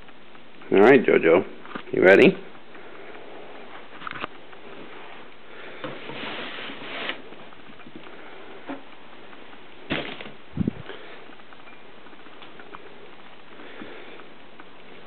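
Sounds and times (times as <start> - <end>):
rustling and handling noise: 0.0 - 15.0.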